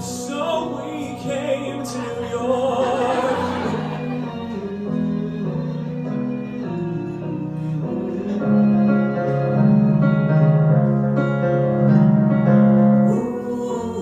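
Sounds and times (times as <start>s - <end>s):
piano playing held chords: 0.0s - 14.0s.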